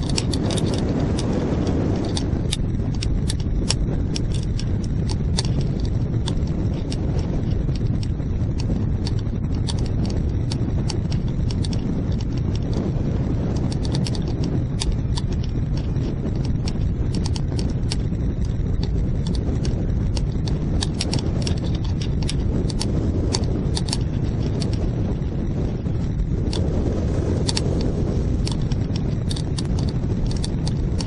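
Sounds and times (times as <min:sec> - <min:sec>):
fast ticking and rattling: 0:00.0 - 0:31.0
wind rushing over microphone: 0:00.0 - 0:31.0.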